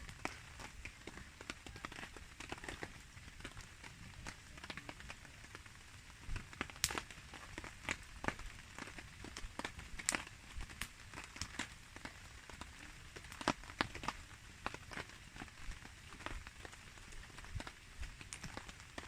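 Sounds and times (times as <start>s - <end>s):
campfire crackling and popping: 0.0s - 19.0s
rain falling: 0.0s - 19.0s.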